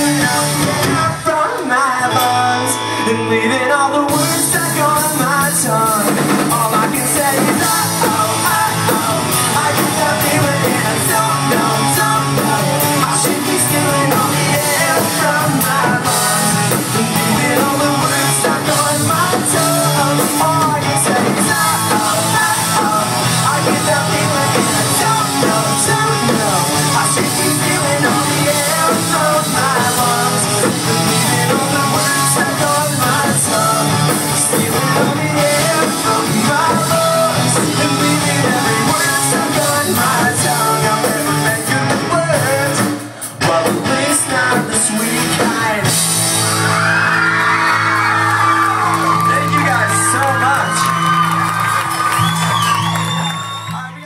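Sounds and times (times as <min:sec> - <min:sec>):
person singing: 0:00.0 - 0:47.2
rock band playing: 0:00.0 - 0:54.0.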